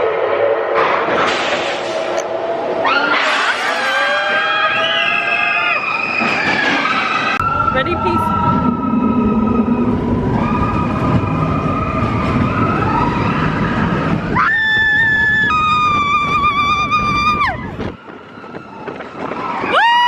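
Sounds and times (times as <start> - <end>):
roller coaster rumbling on track: 0.0 - 20.0.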